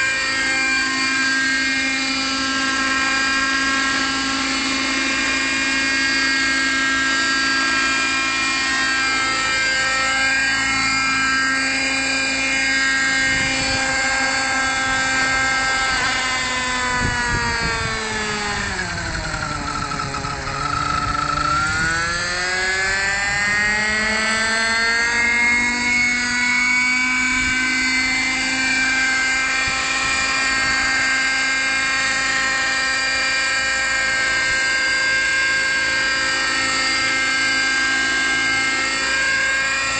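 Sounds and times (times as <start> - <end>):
model helicopter rotors whining: 0.0 - 39.9.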